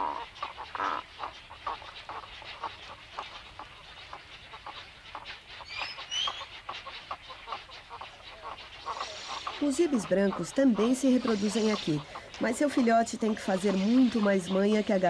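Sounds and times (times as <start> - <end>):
birds clucking and chattering: 0.0 - 15.0
high thin bird chirps: 0.4 - 15.0.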